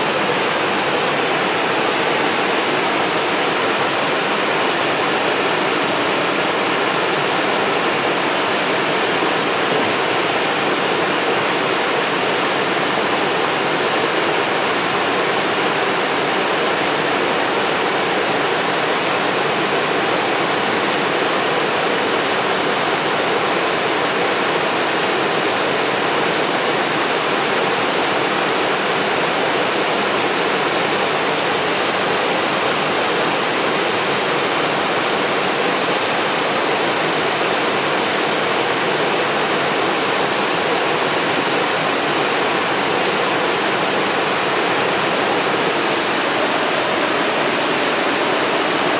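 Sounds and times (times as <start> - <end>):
waterfall rushing over rocks: 0.0 - 48.9.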